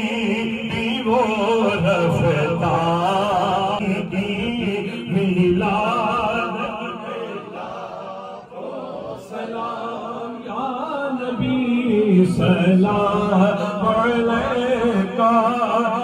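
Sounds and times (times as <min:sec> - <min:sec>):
lead voice through a microphone: 0:00.0 - 0:16.0
men chanting: 0:00.0 - 0:16.0.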